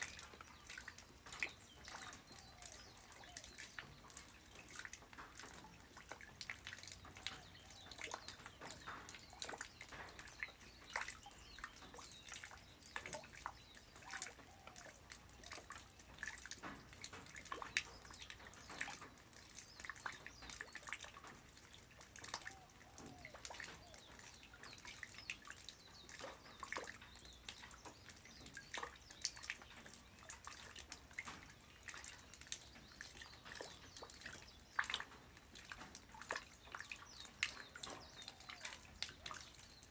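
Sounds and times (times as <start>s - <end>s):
light rain pattering: 0.0s - 39.9s
water dripping: 0.0s - 39.9s.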